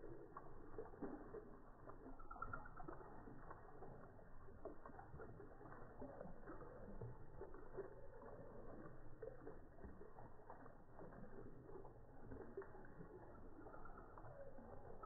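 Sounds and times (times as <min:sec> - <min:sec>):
water trickling in fountain: 0:00.0 - 0:15.0.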